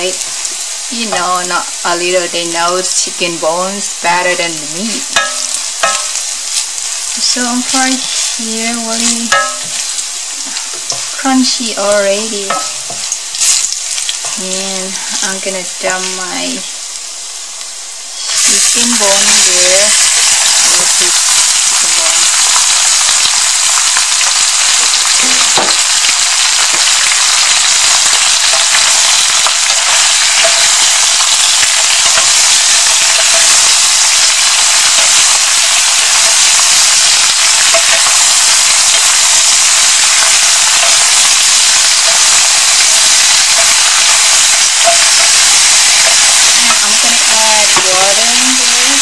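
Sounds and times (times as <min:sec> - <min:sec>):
bones frying in hot oil: 0:00.0 - 0:49.0.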